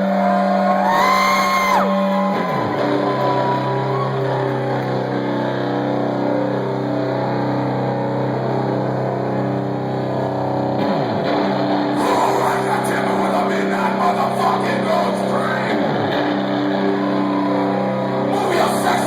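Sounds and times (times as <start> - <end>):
electric guitar bending notes: 0.0 - 19.0
metal band playing live: 0.0 - 19.0.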